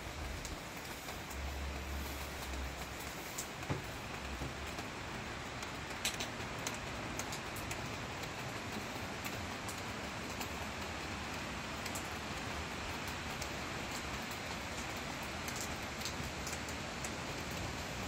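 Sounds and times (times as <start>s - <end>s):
raindrops ticking close by: 0.0s - 18.0s
steady rain: 0.0s - 18.0s.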